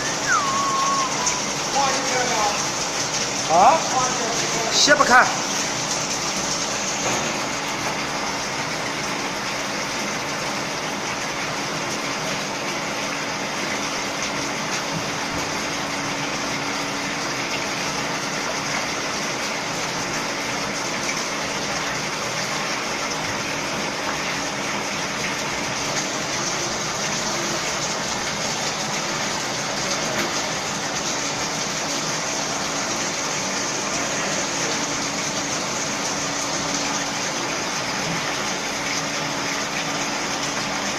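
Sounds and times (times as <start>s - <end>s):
liquid pouring into trough: 0.0s - 40.9s
pump humming: 0.0s - 40.9s.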